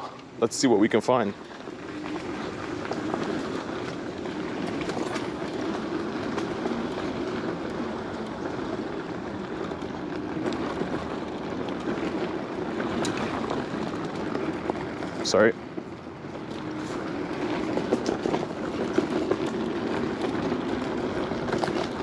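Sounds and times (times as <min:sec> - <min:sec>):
scooter frame rattling: 0:00.0 - 0:22.0
tyres rumbling on gravel: 0:00.0 - 0:22.0.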